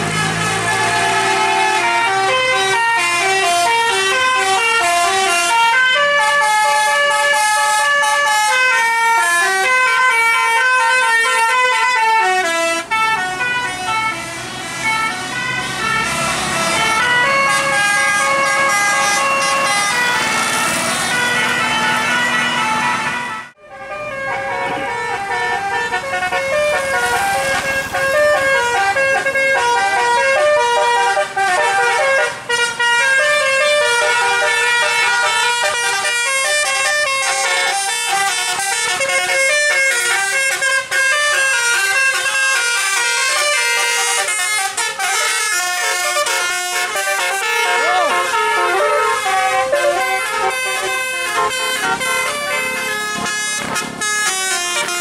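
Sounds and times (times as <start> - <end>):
multi-tone bus horns playing tune: 0.0 - 55.0.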